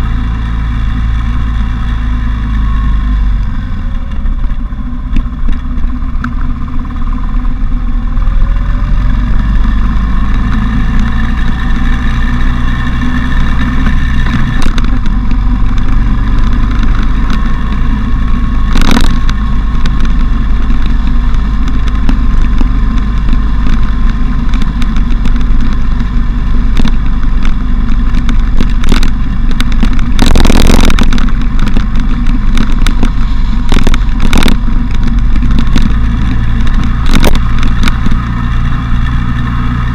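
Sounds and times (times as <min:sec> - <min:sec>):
motorcycle engine accelerating: 0:00.0 - 0:39.9
wind rushing over microphone: 0:00.0 - 0:39.9.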